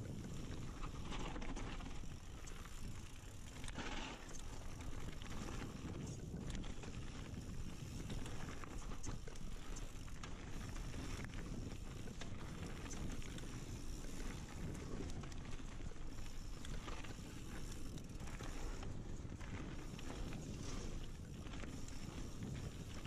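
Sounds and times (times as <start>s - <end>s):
bike rattling and clicking: 0.0s - 23.0s
wind buffeting microphone: 0.0s - 23.0s.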